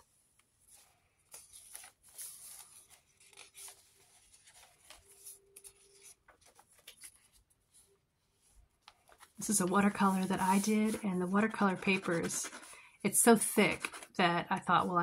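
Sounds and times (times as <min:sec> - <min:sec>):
paper pages rustling and turning: 0:00.0 - 0:13.0, 0:13.6 - 0:14.2.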